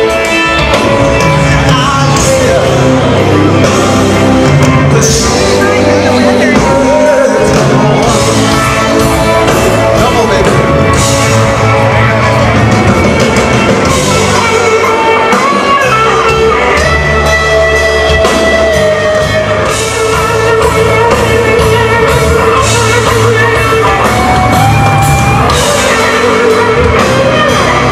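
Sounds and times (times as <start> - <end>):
drum kit: 0.0 - 27.9
electric guitar: 0.0 - 27.9
person singing: 0.0 - 27.9.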